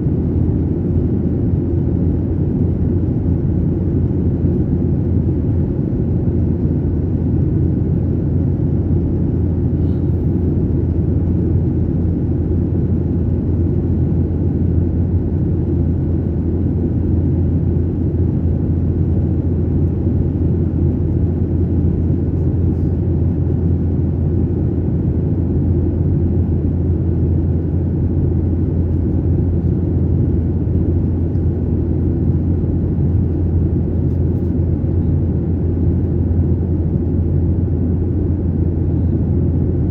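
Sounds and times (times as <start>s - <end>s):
constant low hum: 0.0s - 39.9s.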